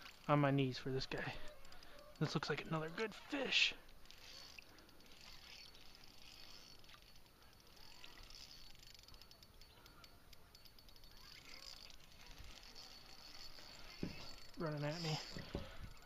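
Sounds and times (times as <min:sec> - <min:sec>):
fishing reel clicking: 0:00.0 - 0:16.0.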